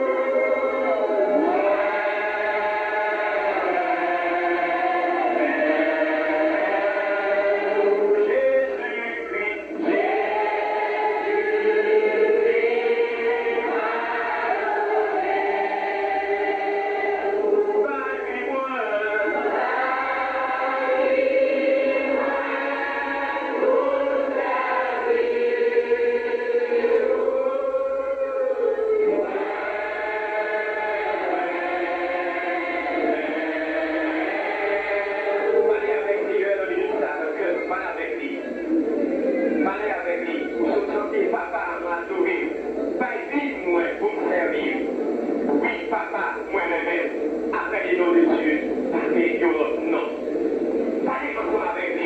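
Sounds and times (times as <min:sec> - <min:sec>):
group singing a hymn: 0:00.0 - 0:52.0.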